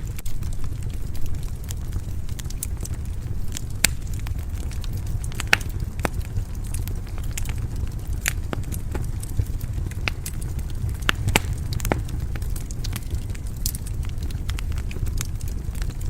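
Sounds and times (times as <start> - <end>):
fire flames rumbling: 0.0 - 16.0
wood fire crackling and popping: 0.0 - 16.0.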